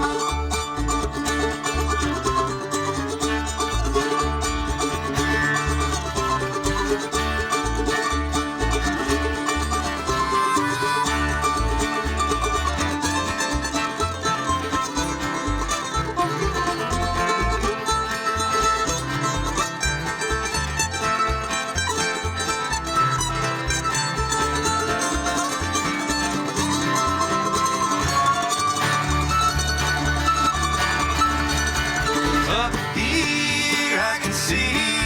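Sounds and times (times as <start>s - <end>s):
banjo picking: 0.0s - 35.0s
guitar picking: 0.0s - 35.0s.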